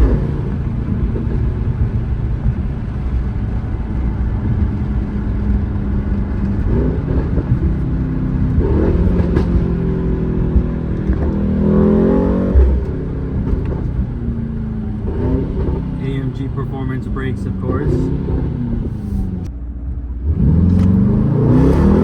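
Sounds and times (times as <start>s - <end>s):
car exhaust rumbling: 0.0s - 22.0s.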